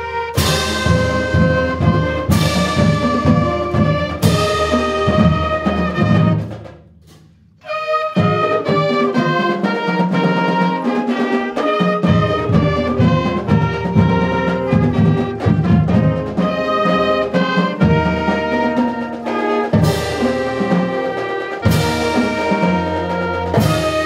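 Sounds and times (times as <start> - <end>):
ensemble playing with brass: 0.0 - 6.8, 7.6 - 24.0.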